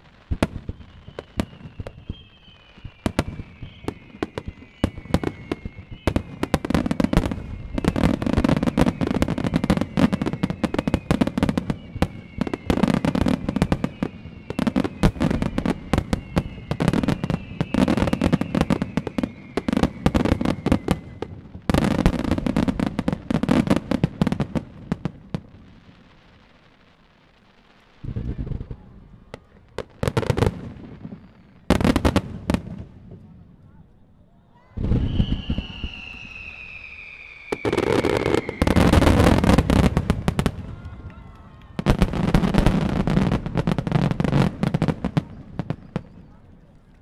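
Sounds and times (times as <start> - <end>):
falling firework whistles: 0.0 - 32.8, 33.7 - 46.4
fireworks booming and cracking: 0.0 - 33.9, 34.7 - 46.6.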